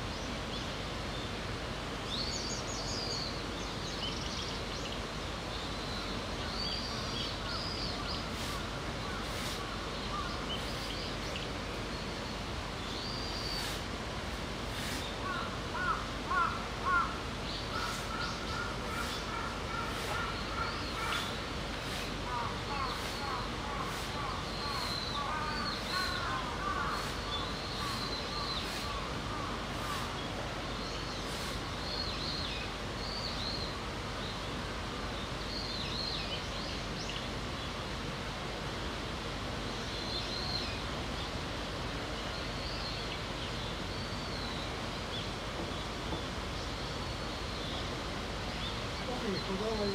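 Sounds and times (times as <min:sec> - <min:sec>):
outdoor background noise: 0:00.0 - 0:49.9
small birds chirping: 0:02.1 - 0:34.6, 0:39.6 - 0:49.9.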